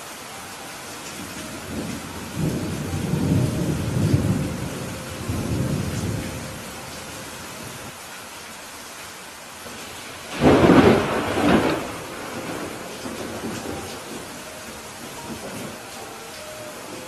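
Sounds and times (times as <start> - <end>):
steady rain hiss: 0.0 - 17.0
thunder rumbling: 1.1 - 7.9, 9.8 - 17.0.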